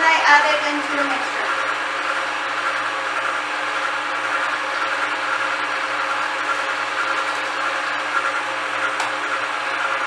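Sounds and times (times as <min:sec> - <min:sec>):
electric mixer running: 0:00.0 - 0:10.0.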